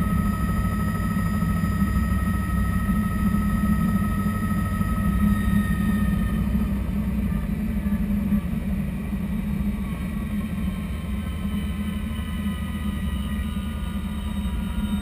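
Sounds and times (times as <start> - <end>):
faint turbine whine: 0.0 - 15.0
helicopter engine low drone: 0.0 - 15.0.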